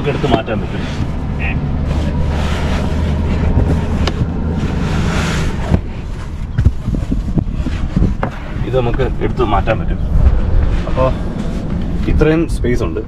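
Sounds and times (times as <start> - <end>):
steady low hum: 0.0 - 13.0
wind noise on microphone: 2.4 - 13.0.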